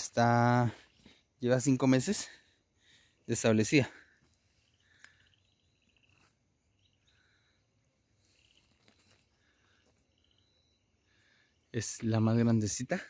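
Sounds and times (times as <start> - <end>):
distant bird chirps: 0.0 - 12.6.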